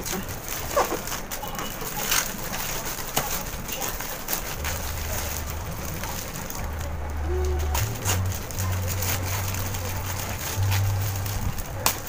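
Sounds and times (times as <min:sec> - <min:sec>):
cellophane crinkling: 0:00.0 - 0:12.0.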